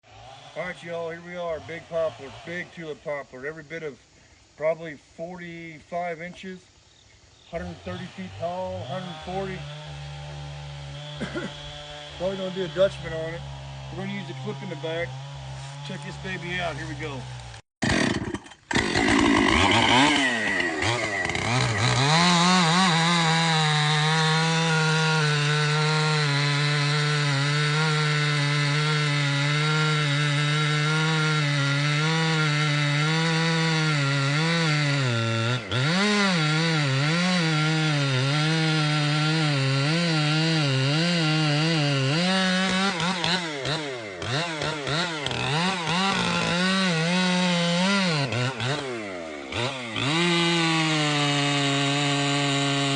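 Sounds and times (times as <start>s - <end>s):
chainsaw cutting wood: 0.0s - 6.6s, 7.5s - 52.9s.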